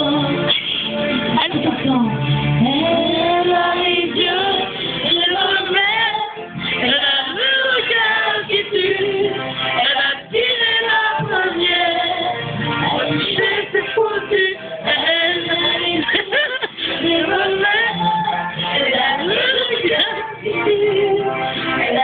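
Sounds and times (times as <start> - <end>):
person singing: 0.0 - 22.0
pop backing music: 0.0 - 22.0.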